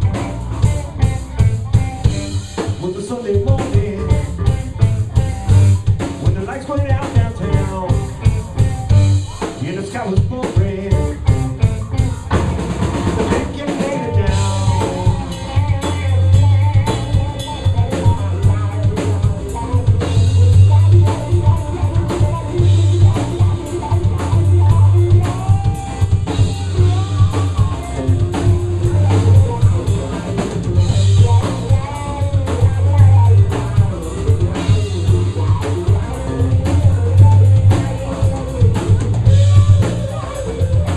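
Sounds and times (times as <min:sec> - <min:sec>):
drum kit: 0:00.0 - 0:40.9
electric guitar: 0:00.0 - 0:40.9
low bass line: 0:00.0 - 0:40.9.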